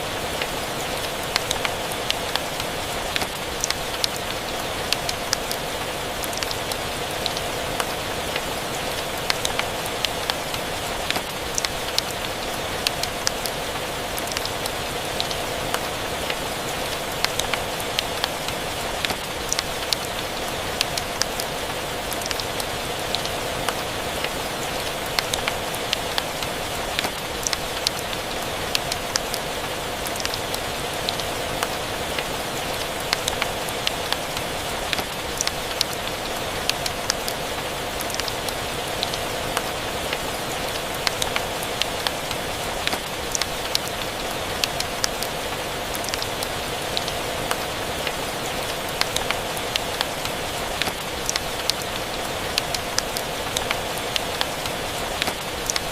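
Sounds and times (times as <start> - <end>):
rain hiss: 0.0 - 55.9.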